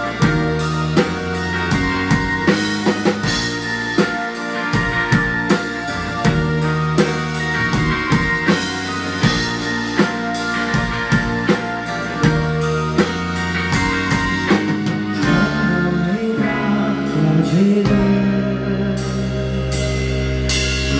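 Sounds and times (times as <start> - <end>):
drum kit beat: 0.0 - 20.9
sustained guitar chords: 0.0 - 20.9.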